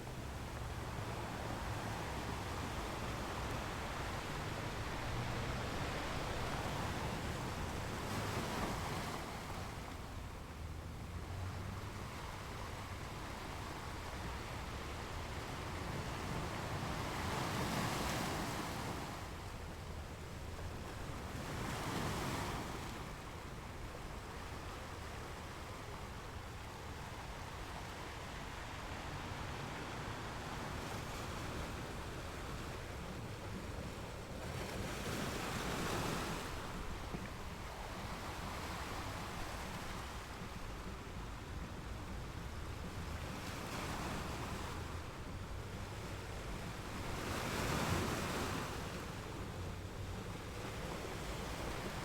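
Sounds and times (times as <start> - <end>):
waves breaking: 0.0 - 52.0
waves washing: 0.0 - 52.0.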